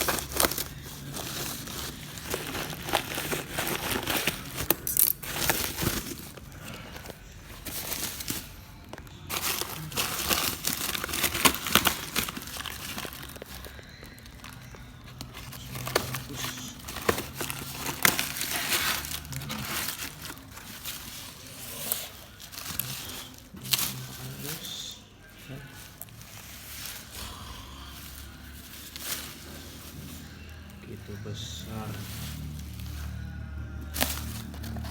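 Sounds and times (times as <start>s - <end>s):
packaging tearing: 0.0s - 25.0s, 31.3s - 34.9s
packaging crinkling: 0.0s - 34.9s.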